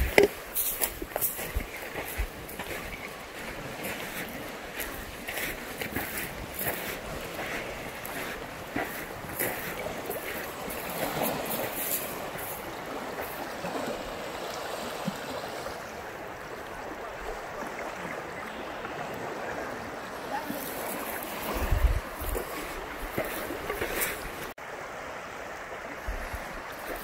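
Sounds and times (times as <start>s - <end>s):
river water flowing: 0.0s - 27.0s.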